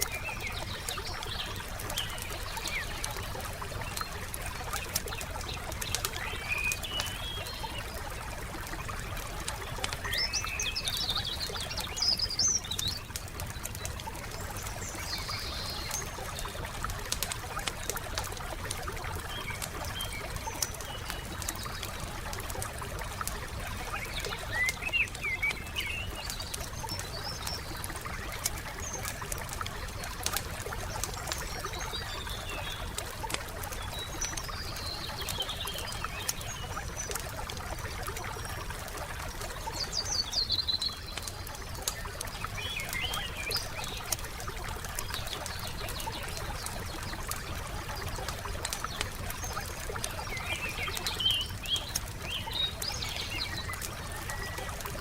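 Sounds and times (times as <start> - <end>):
small birds chirping: 0.0 - 55.0
wood fire crackling: 0.0 - 55.0.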